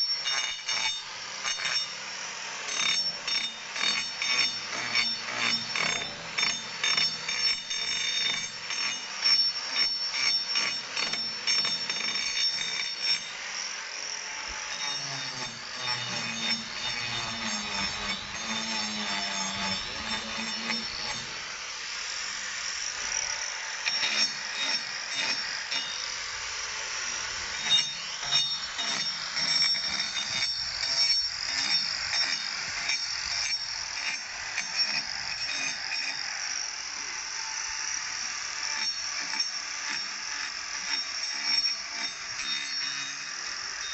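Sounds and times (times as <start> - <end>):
angle grinder grinding hoof: 0.0 - 43.9.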